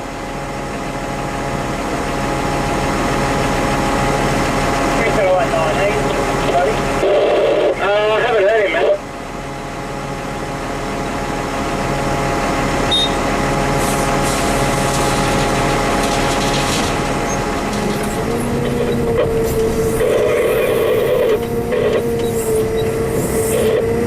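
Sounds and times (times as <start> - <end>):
heavy diesel engine running: 0.0 - 24.0
steady whine: 0.0 - 24.0.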